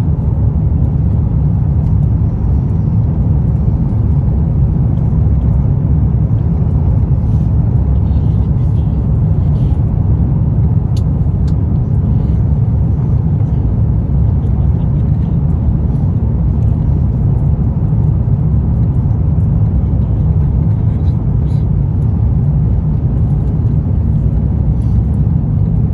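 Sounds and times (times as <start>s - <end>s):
airplane cabin engine drone: 0.0s - 25.9s.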